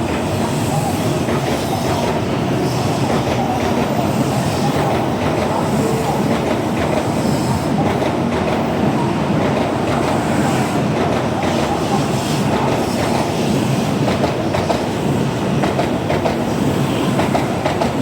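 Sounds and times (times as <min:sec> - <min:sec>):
train wheels on rail: 0:00.0 - 0:18.0.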